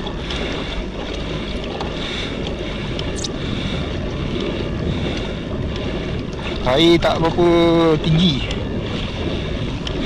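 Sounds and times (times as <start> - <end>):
calm sea water washing: 0.0 - 10.0
wind on microphone: 0.0 - 10.0.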